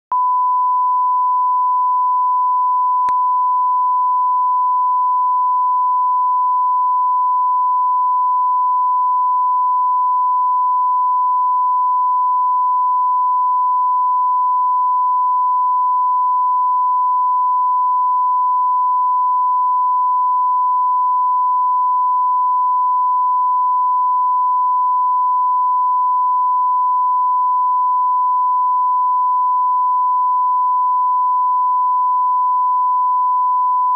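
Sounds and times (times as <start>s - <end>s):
steady sine test tone: 0.1s - 33.9s.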